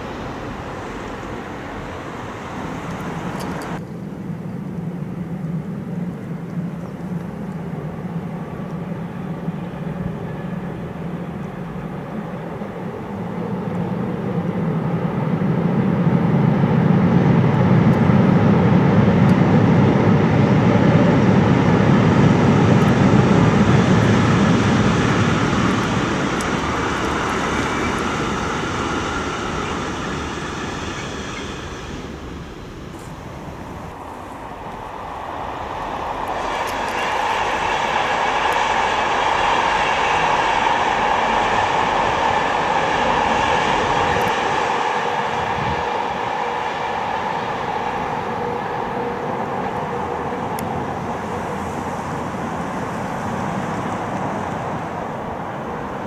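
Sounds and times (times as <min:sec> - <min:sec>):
freight train rumbling past: 0:00.0 - 0:56.0
passenger train rolling: 0:00.0 - 0:56.0.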